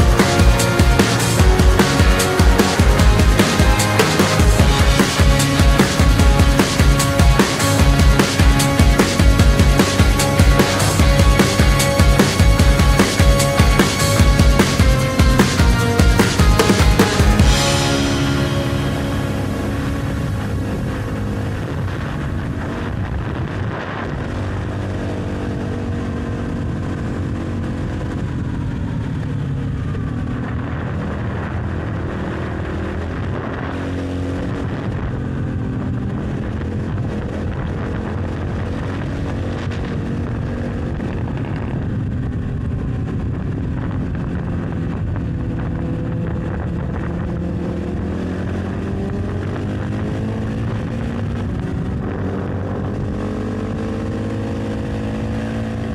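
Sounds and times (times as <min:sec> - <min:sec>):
motorcycle engine at speed: 0:00.0 - 0:55.9.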